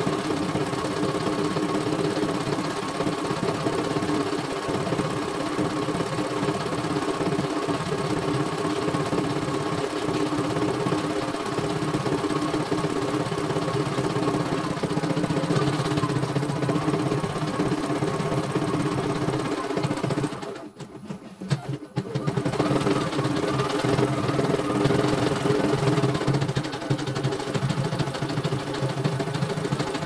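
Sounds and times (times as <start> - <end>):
embroidery machine stitching: 0.0 - 30.0.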